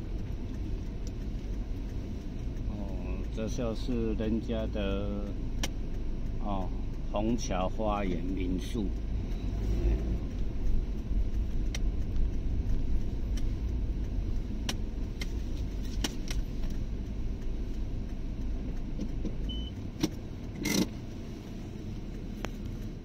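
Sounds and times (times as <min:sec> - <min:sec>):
engine and tyre rumble: 0:00.0 - 0:23.0
small clicks and rattles: 0:00.0 - 0:23.0.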